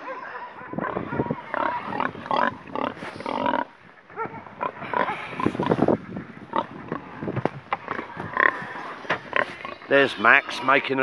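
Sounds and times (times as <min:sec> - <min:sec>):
pigs grunting: 0:00.4 - 0:11.0.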